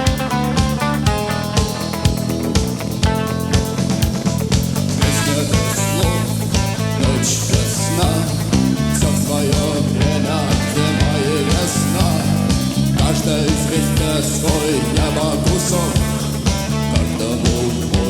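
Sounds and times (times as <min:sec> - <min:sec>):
drum beat: 0:00.0 - 0:18.0
rock band playing live: 0:00.0 - 0:18.0.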